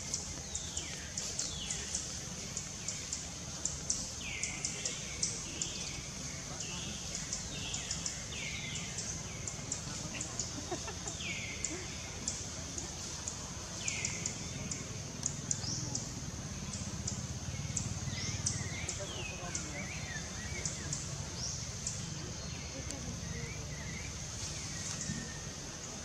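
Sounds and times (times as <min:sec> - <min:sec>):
descending chirping calls: 0:00.0 - 0:26.0.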